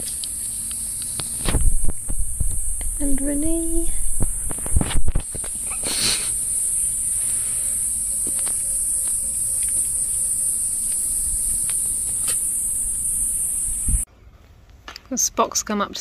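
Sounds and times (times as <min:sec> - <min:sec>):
high-pitched insect chorus: 0:00.0 - 0:14.1.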